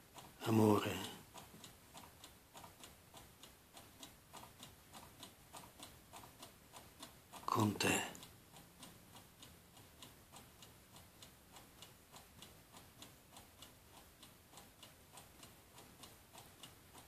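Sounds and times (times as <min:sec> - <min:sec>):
faint steady ticking: 0:00.0 - 0:17.0.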